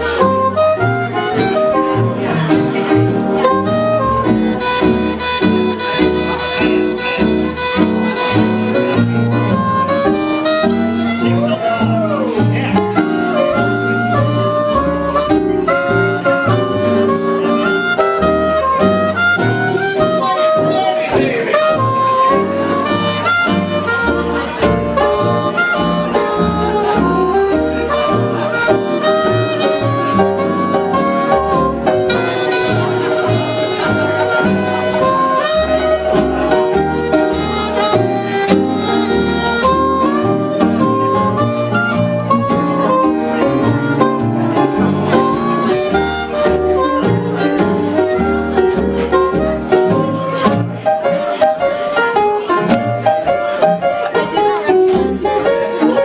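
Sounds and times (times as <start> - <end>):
bass line: 0.0 - 56.0
saxophone: 0.0 - 56.0
small jazz band playing: 0.0 - 56.0.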